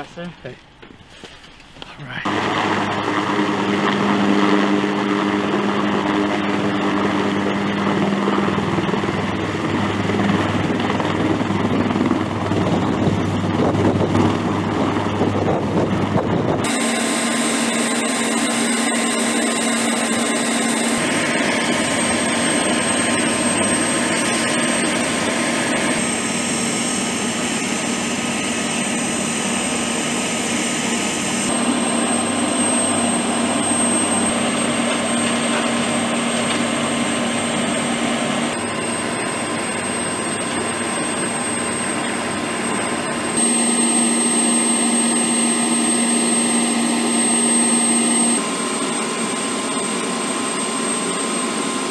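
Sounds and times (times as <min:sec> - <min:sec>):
helicopter engines and rotor: 0:00.0 - 0:51.9
high turbine whine: 0:00.0 - 0:51.9.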